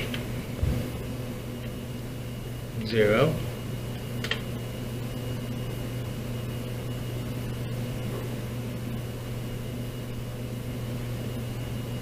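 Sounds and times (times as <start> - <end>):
faint high whine: 0.0 - 12.0
low machine hum: 0.0 - 12.0.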